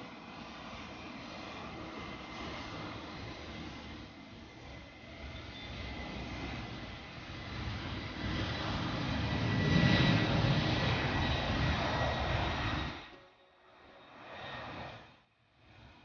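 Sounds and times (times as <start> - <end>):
jet aircraft engines rumbling: 0.0 - 16.0.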